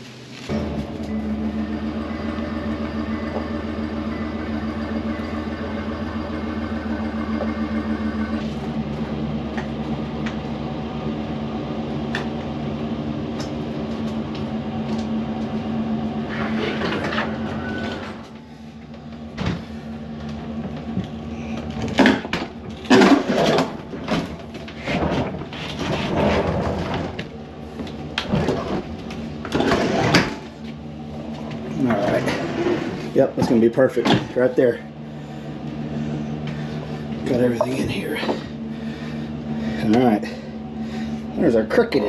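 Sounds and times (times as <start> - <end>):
truck engine idling: 0.0 - 29.6, 30.3 - 32.2, 32.9 - 42.0.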